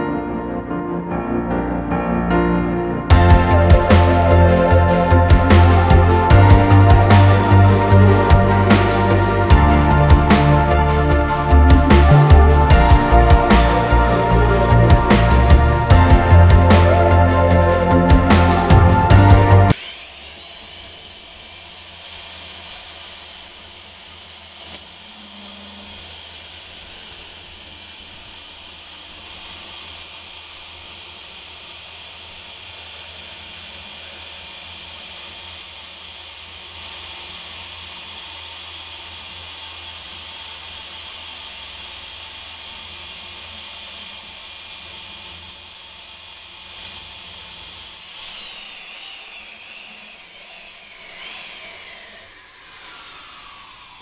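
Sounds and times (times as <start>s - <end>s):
sliding whines: 0.0s - 54.0s
drill motor hum: 3.1s - 54.0s
wood shaving hiss: 3.1s - 54.0s.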